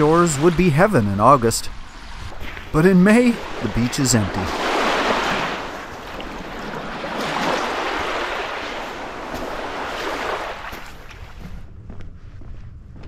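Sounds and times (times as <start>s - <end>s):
small waves washing on beach: 0.0s - 11.4s.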